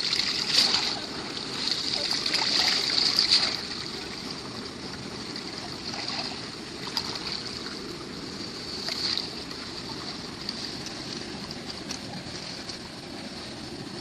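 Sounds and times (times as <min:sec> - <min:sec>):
faint splashes: 0:00.0 - 0:14.0
flowing water: 0:00.0 - 0:14.0.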